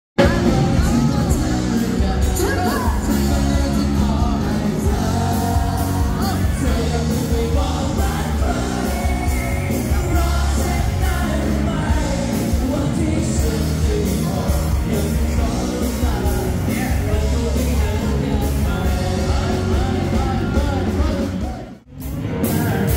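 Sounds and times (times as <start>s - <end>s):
live pop-rock band: 0.2s - 22.9s
person singing: 0.2s - 22.9s.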